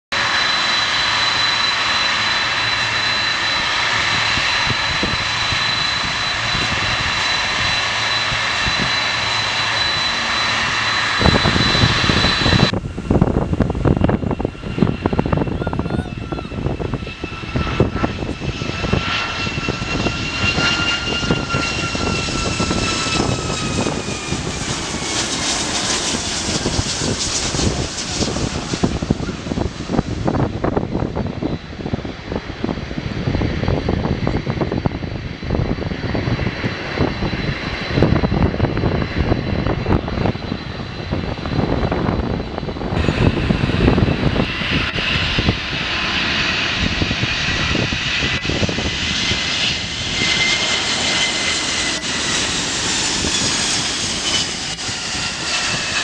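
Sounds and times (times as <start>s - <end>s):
airliner passing with deep rumble: 0.1s - 56.0s
jet engine high whine: 0.1s - 56.0s.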